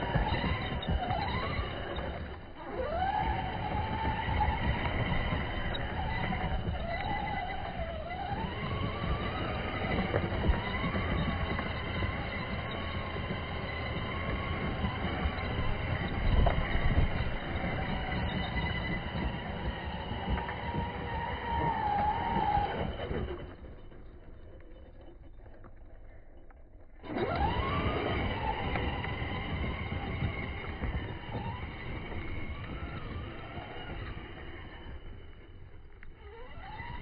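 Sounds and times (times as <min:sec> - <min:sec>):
rc truck electric motor whining: 0:00.0 - 0:25.5, 0:27.0 - 0:37.0
tyres spinning in loose dirt: 0:00.0 - 0:37.0.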